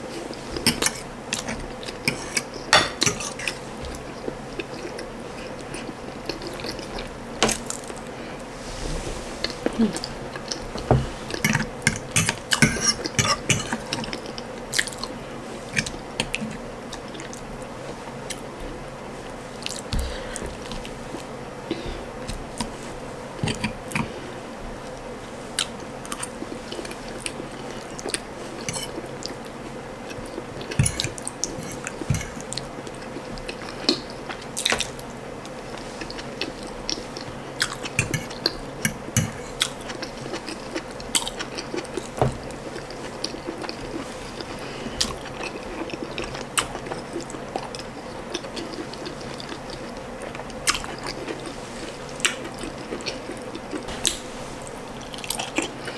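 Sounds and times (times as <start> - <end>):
close chewing and mouth sounds: 0.0 - 8.2, 9.4 - 24.2, 24.8 - 55.9
faint steady hum: 0.0 - 55.9.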